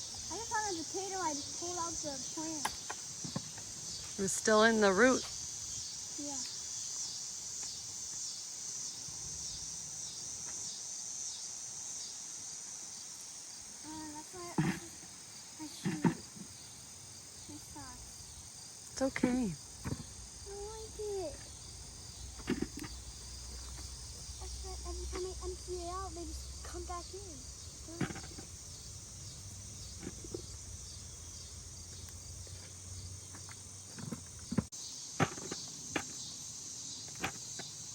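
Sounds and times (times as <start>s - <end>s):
insects singing: 0.0s - 37.9s.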